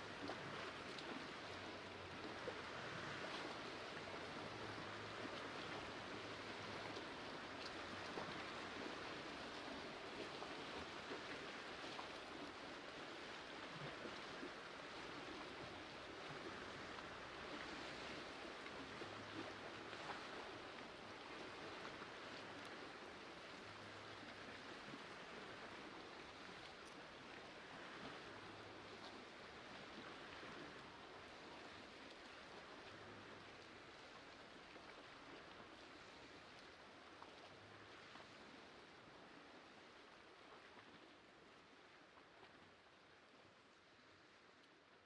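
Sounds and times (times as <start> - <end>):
lake water lapping on rocky shore: 0.0 - 43.4.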